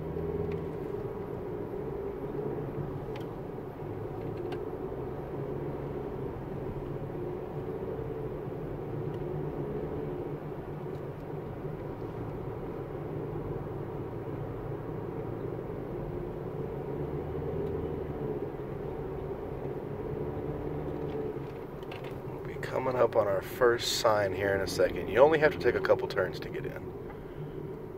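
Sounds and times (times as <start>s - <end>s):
car engine and road noise: 0.0s - 27.9s.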